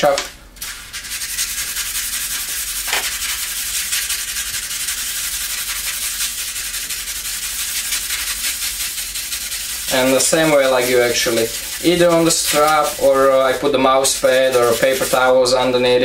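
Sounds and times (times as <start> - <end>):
knife blade rasping on sandpaper: 0.6 - 15.5.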